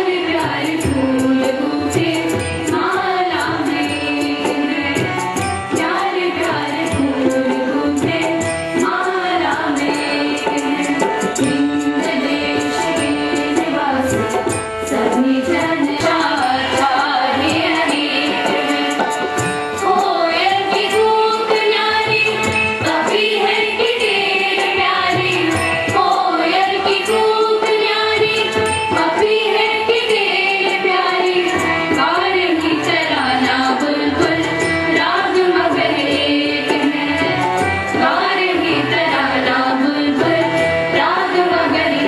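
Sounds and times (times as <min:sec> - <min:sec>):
instrumental and percussion accompaniment: 0:00.0 - 0:42.0.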